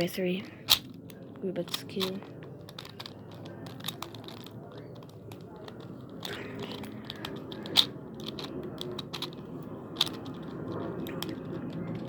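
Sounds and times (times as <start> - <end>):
puzzle cube clicking: 0.6 - 12.0.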